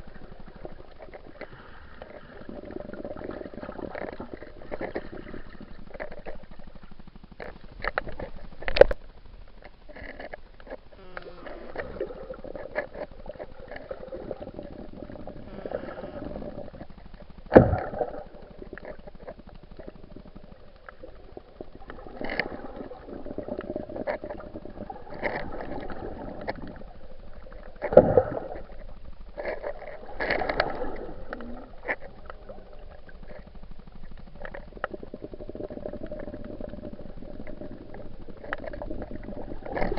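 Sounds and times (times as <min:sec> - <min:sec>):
muffled water sloshing underwater: 0:00.0 - 0:39.9.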